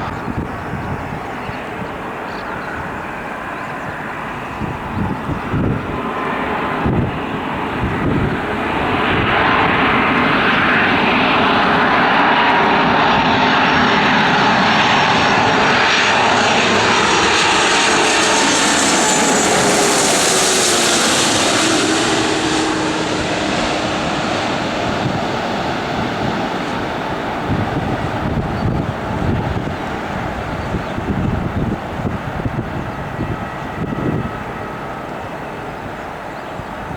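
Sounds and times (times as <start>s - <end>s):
airliner engines passing: 0.0s - 36.9s.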